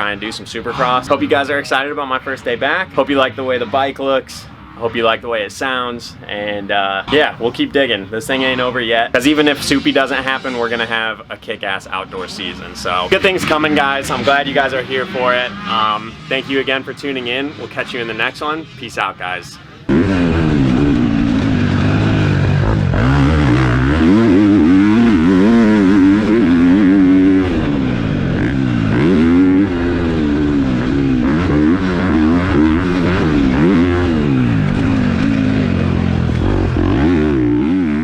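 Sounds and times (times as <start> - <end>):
motocross bike engine revving: 0.0 - 5.2, 6.6 - 11.2, 11.9 - 38.0.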